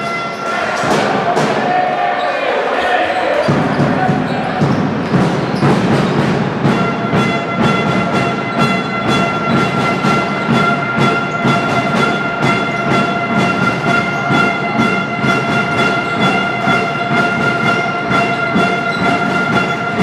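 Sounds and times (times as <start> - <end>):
drums beating fast rhythm: 0.0 - 2.0, 3.3 - 20.0
crowd noise: 0.0 - 20.0.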